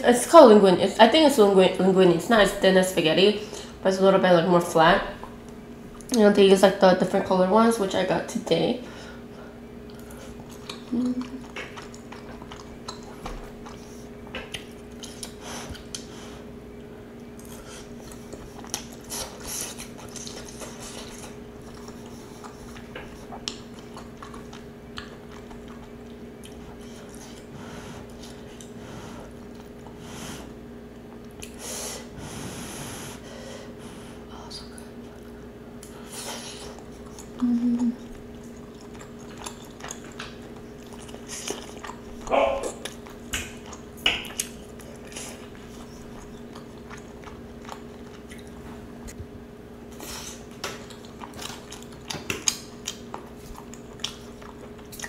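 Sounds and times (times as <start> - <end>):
faint steady hum: 0.0 - 55.0
person chewing food: 9.1 - 32.5, 33.6 - 55.0.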